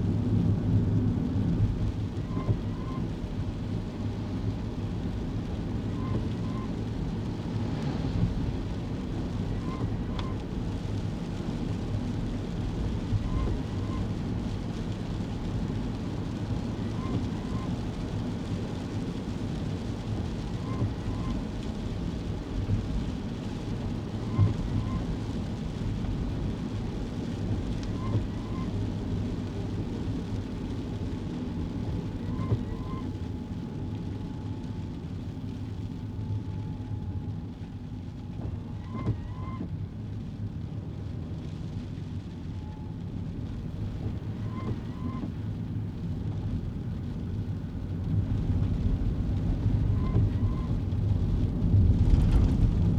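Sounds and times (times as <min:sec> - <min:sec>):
car engine and tyre hum: 0:00.0 - 0:52.9
rain noise: 0:00.0 - 0:52.9.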